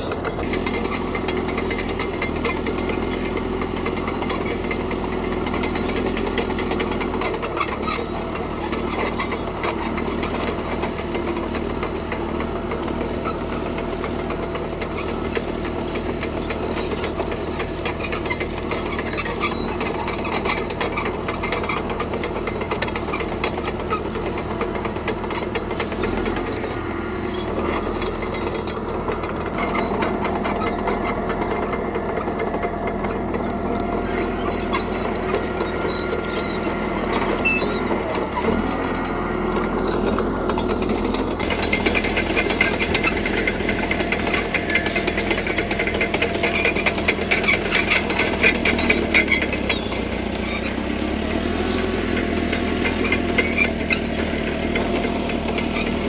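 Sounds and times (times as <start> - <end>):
bulldozer diesel engine running: 0.0 - 56.0
steel tracks squealing and clanking: 0.0 - 56.0.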